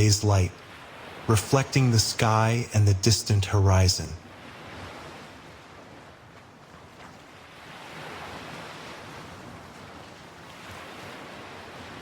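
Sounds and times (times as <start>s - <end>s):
ocean waves washing onto shore: 0.0s - 12.0s.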